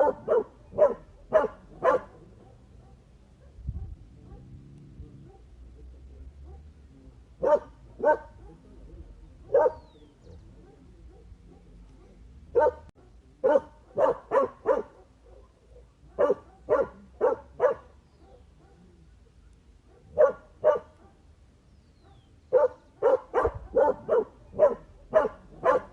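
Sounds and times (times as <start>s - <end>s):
dog barking: 0.0s - 5.7s, 6.3s - 6.8s, 7.4s - 21.3s, 22.0s - 25.9s.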